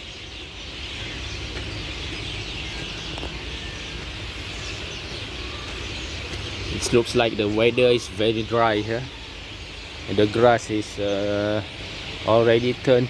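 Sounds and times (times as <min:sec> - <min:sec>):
distant highway traffic: 0:00.0 - 0:13.0.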